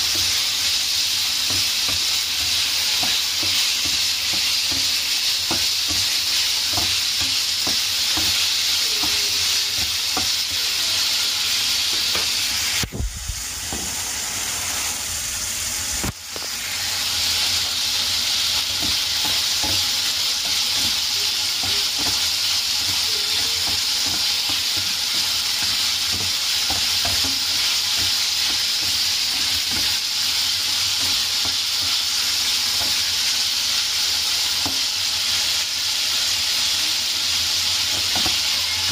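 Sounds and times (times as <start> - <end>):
spatula scraping and tapping pan: 0.0 - 12.8, 13.7 - 14.0, 17.2 - 35.2, 37.8 - 38.9
chicken sizzling in frying pan: 0.0 - 38.9.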